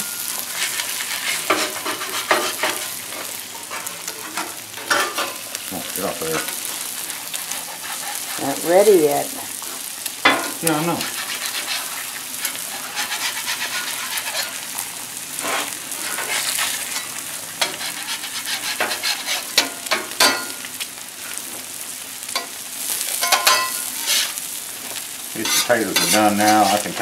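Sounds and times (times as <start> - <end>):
metal spatula scraping griddle: 0.0 - 5.5, 6.2 - 9.3, 10.3 - 20.6, 23.2 - 24.4, 25.4 - 27.0
food sizzling on griddle: 0.0 - 27.0.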